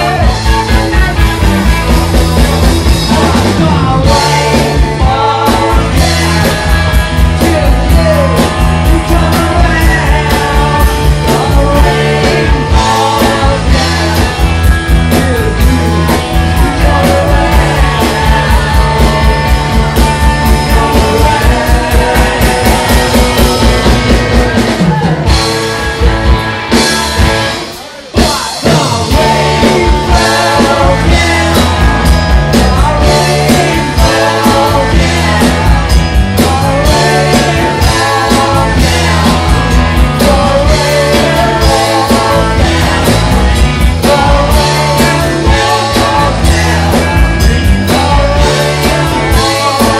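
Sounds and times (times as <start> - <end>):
rock band playing loudly: 0.0 - 49.9.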